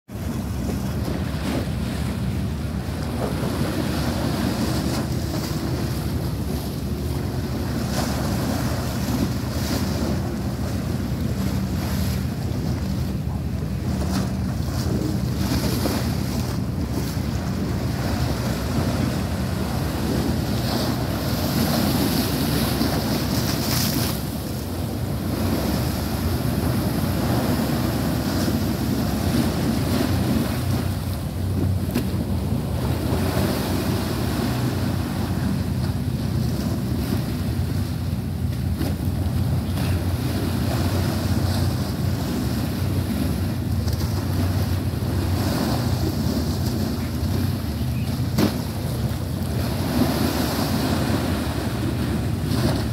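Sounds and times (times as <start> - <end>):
water washing against seawall: 0.1 - 52.9
wind buffeting microphone: 0.1 - 52.9
steady low hum: 0.2 - 52.9.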